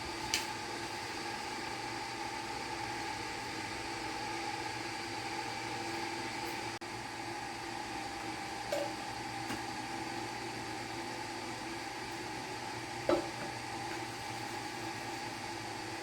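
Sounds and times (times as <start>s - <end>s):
mechanical room hum: 0.0s - 16.0s.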